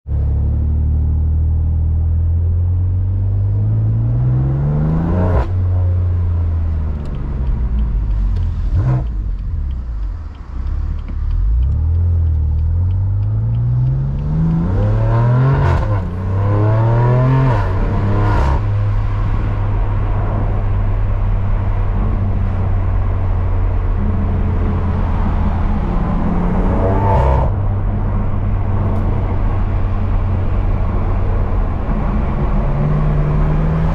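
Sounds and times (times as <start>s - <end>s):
car engine accelerating: 0.1s - 33.9s
exhaust cracks: 5.4s - 32.7s.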